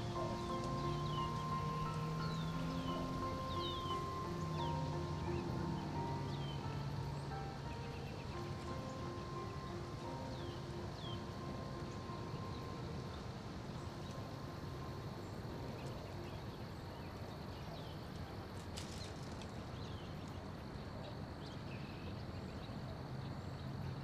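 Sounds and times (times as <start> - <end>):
faint bird chirps: 0.0 - 24.0
low rumble and hiss: 0.0 - 24.0.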